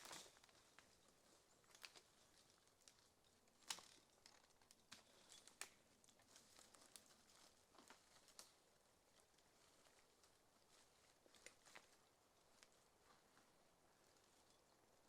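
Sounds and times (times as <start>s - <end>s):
faint crackles and ticks: 0.0s - 15.0s.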